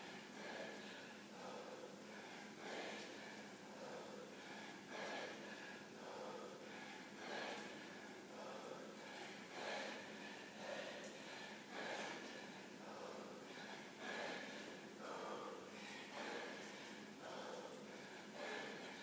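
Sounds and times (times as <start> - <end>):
man breathing heavily: 0.0 - 19.0.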